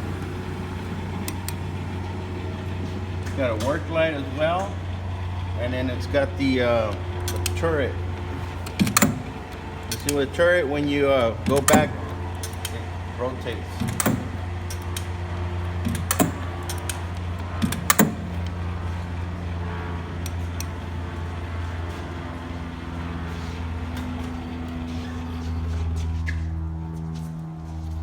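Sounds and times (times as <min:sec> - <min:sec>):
lathe humming: 0:00.0 - 0:26.8.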